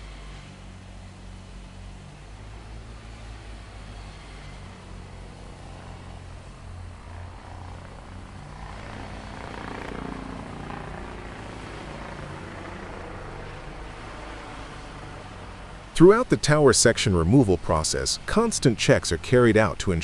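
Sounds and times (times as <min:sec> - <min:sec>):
heavy machinery engines droning: 0:00.0 - 0:20.0.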